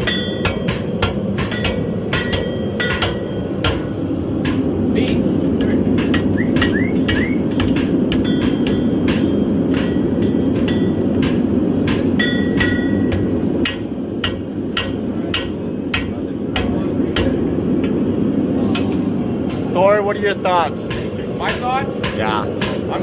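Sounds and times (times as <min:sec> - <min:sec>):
hammers striking hot steel: 0:00.0 - 0:19.8, 0:20.8 - 0:23.0.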